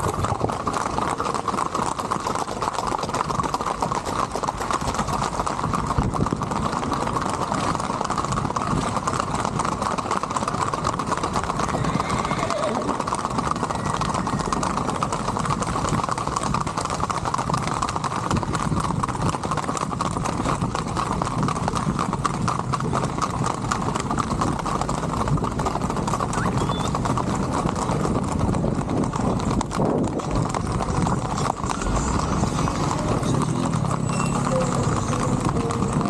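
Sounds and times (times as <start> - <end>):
horse hooves on asphalt: 0.0 - 36.0.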